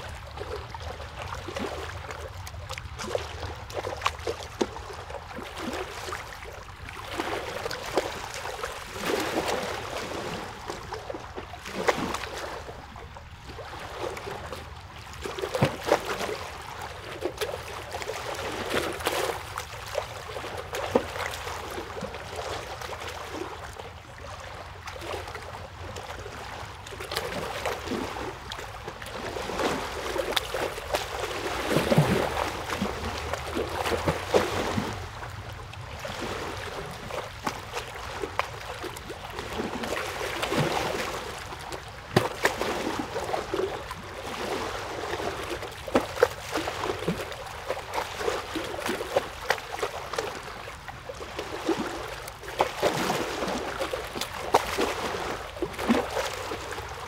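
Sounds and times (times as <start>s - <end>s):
small water splashes: 0.0s - 57.0s
water trickling and lapping: 0.0s - 57.0s.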